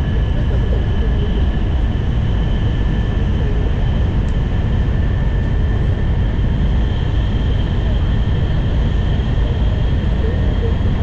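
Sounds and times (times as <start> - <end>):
train rumble from inside: 0.0 - 11.0.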